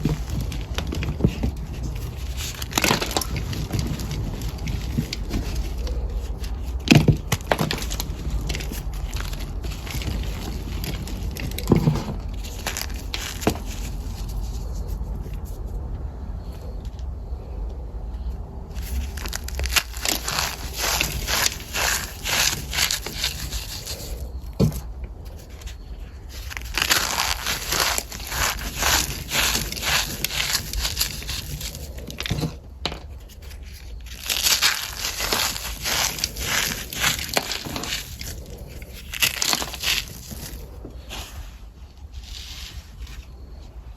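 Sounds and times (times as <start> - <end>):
cornstarch crunching: 0.0 - 14.8, 18.7 - 24.8, 26.3 - 32.5, 33.4 - 41.5.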